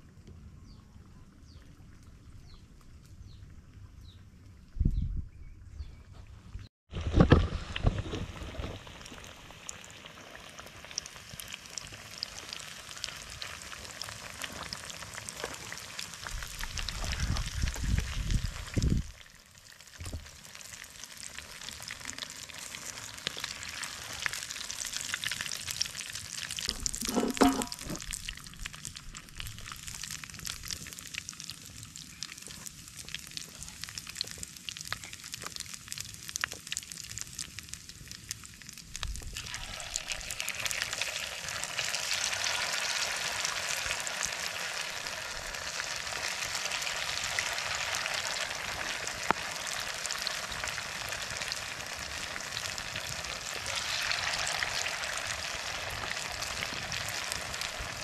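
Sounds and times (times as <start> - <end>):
oil sizzling and crackling: 6.9 - 58.0.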